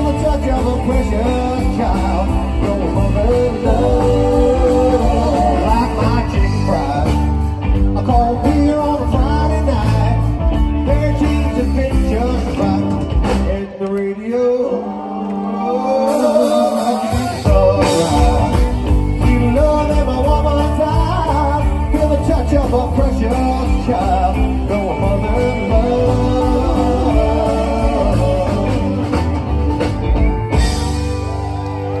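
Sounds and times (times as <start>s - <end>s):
bass and drums: 0.0s - 13.8s, 16.1s - 32.0s
country-rock band playing: 0.0s - 32.0s.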